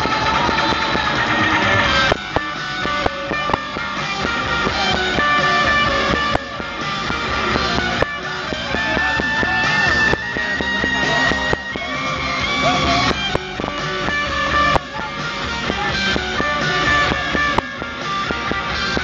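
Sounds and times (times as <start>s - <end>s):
live rock band: 0.0s - 19.0s.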